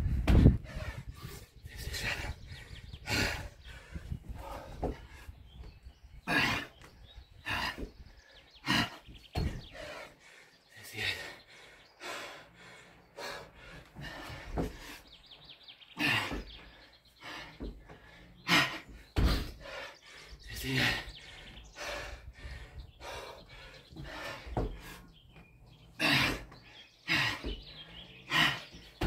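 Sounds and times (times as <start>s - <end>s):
person breathing hard: 0.0s - 5.5s, 6.2s - 15.2s, 16.0s - 25.2s, 26.0s - 29.0s.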